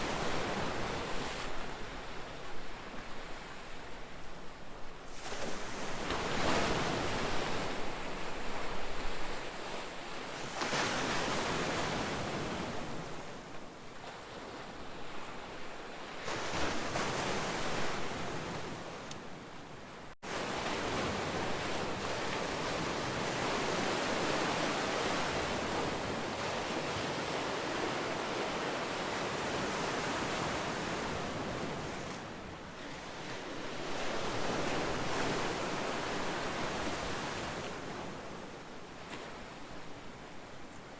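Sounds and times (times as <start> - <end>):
ocean waves washing ashore: 0.0 - 40.9.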